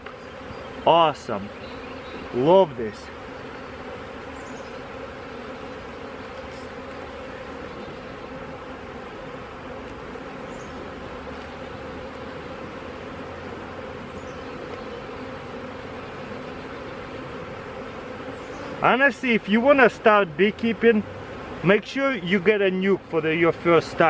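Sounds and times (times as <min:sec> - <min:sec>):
honey bees buzzing: 0:00.0 - 0:24.0.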